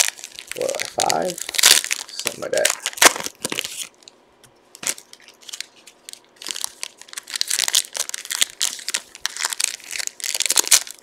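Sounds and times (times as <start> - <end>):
card wrappers crinkling and tearing: 0.0 - 4.2, 4.8 - 11.0.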